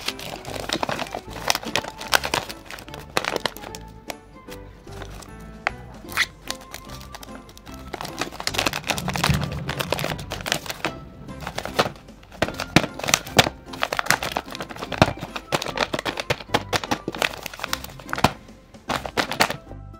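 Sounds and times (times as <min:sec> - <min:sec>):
paper crinkling and rustling: 0:00.0 - 0:19.6
background music: 0:00.0 - 0:19.9.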